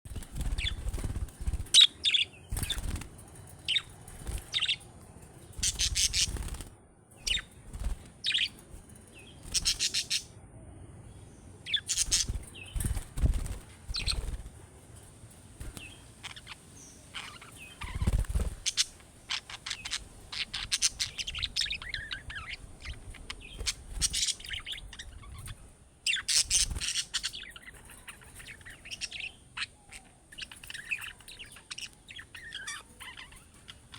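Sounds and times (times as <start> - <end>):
budgerigars chirping and warbling: 0.1 - 4.8, 5.5 - 8.6, 9.3 - 10.3, 11.7 - 14.4, 15.7 - 33.9.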